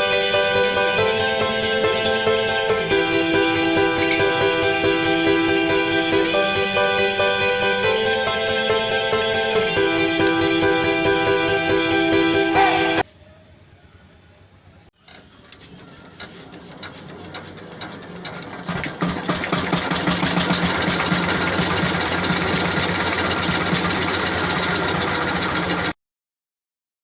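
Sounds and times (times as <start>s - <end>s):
small generator engine running: 0.0s - 13.0s, 15.1s - 26.0s.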